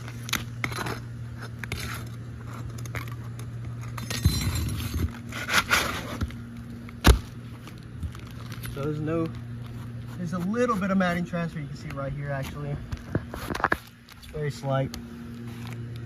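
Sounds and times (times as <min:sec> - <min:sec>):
roof shingles scraping and crackling: 0:00.0 - 0:14.6
steady low hum: 0:00.0 - 0:16.0.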